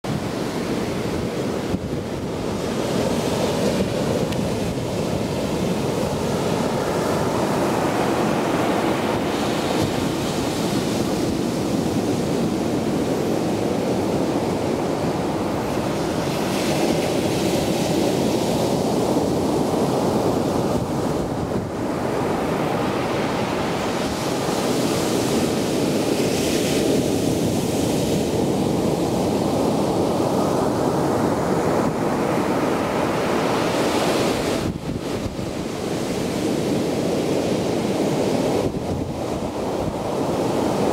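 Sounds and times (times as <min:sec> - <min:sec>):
rumble of churning surf: 0:00.0 - 0:40.9
wind buffeting microphone: 0:00.1 - 0:40.9.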